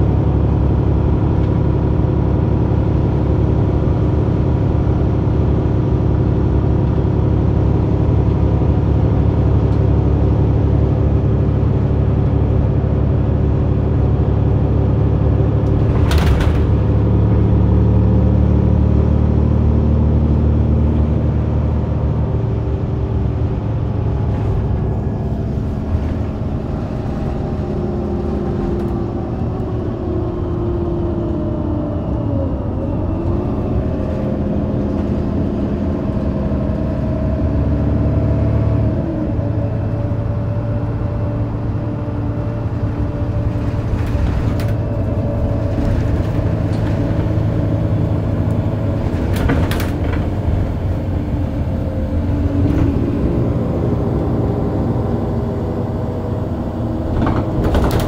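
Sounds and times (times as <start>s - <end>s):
bus diesel engine running: 0.0s - 58.0s
rising transmission whine: 0.0s - 58.0s.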